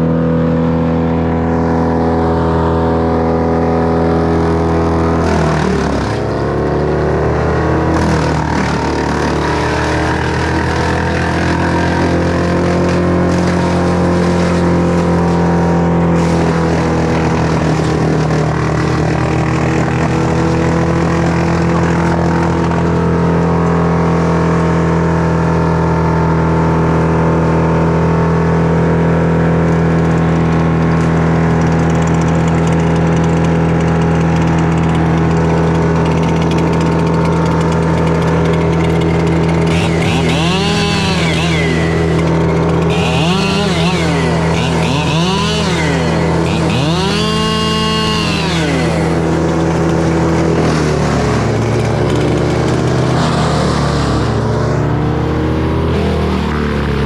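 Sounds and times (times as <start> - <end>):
chainsaw revving: 0.0 - 57.0
engine running steadily: 0.0 - 57.0.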